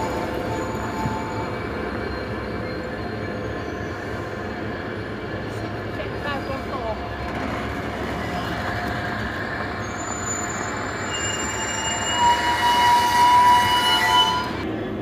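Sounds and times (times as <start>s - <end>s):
wheels squealing: 0.0s - 14.7s.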